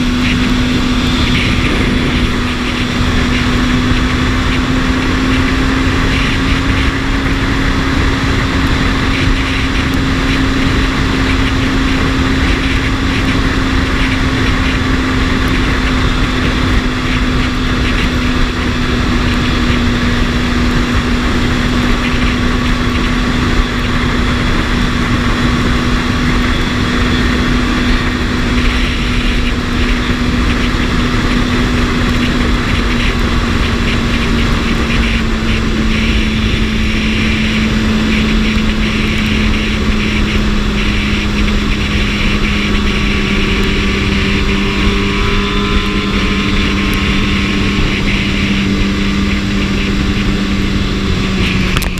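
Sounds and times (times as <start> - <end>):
motorcycle engine cruising: 0.0 - 51.9
wind rush on microphone: 0.0 - 51.9.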